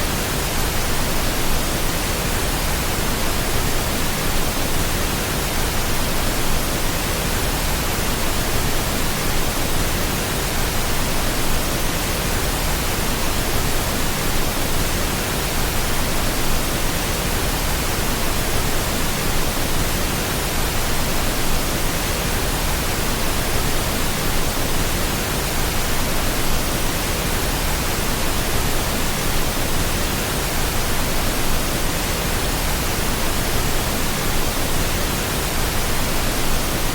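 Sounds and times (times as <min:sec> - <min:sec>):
pink noise hiss: 0:00.0 - 0:36.9.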